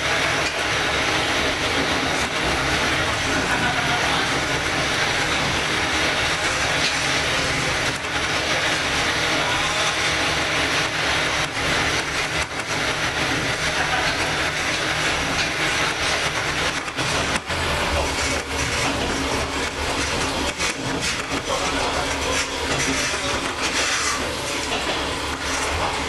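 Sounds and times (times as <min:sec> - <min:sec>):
diesel railcar running: 0:00.0 - 0:26.0.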